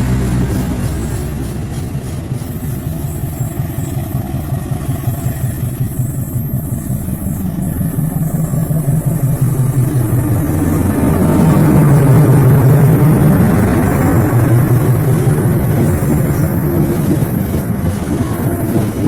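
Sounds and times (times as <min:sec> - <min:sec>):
diesel locomotive engine rumbling: 0:00.0 - 0:19.0.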